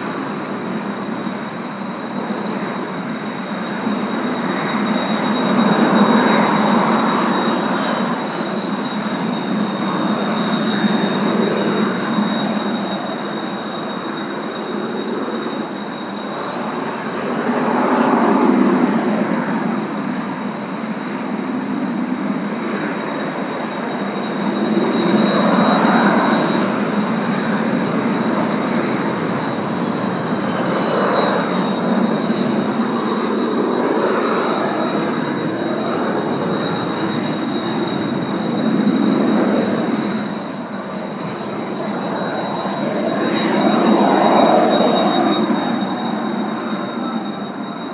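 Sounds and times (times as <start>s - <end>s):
higher jet whine: 0.0s - 47.9s
jet engines whining and rushing: 0.0s - 47.9s.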